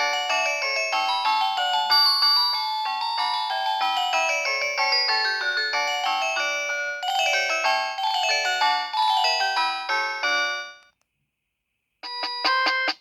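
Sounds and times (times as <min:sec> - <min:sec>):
bell-like phone ringtone: 0:00.0 - 0:10.9, 0:12.0 - 0:13.0.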